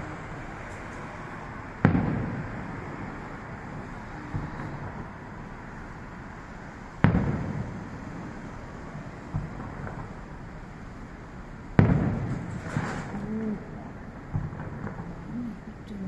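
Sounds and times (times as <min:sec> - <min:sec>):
firework crackle: 0:00.0 - 0:16.0
fireworks booming: 0:00.0 - 0:16.0.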